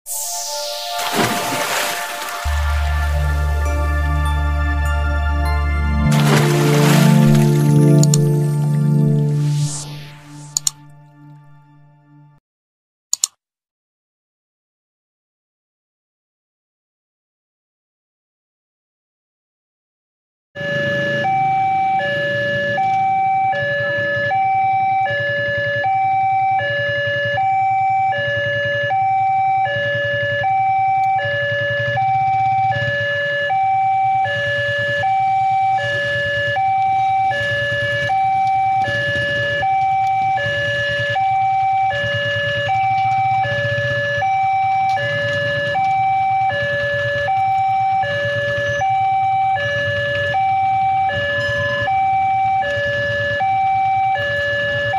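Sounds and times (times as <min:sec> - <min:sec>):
two-tone crossing alarm: 0:00.0 - 0:12.3, 0:20.6 - 0:54.9.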